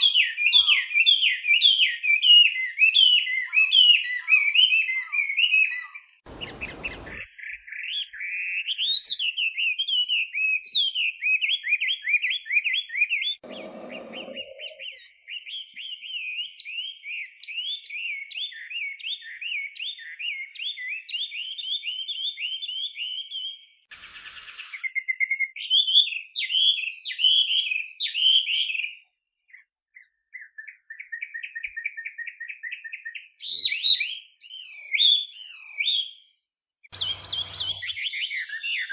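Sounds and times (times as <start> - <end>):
bird singing whistled phrases: 0.0 - 38.9.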